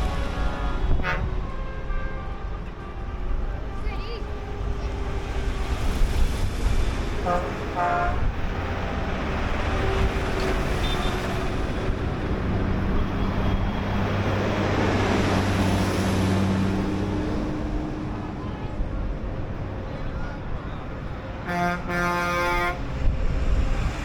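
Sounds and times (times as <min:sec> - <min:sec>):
tractor and truck engines passing: 0:00.0 - 0:24.0.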